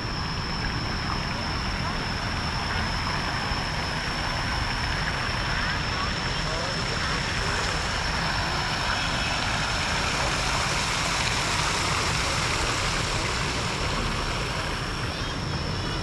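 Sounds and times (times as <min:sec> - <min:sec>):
fountain splashing: 0:00.0 - 0:16.0
thin high-pitched whine: 0:00.0 - 0:16.0.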